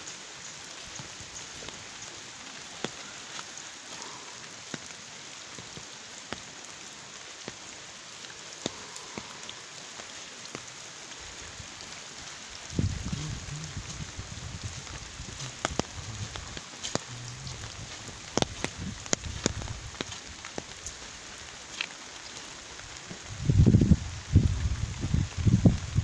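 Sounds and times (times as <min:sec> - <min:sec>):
rain on wet ground and foliage: 0:00.0 - 0:26.0
sharp raindrops landing close: 0:00.0 - 0:26.0.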